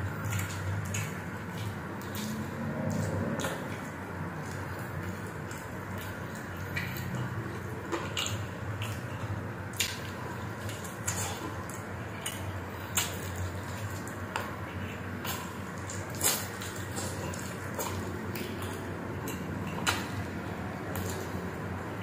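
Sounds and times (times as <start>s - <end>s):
wet chewing and lip smacking: 0.1s - 21.7s.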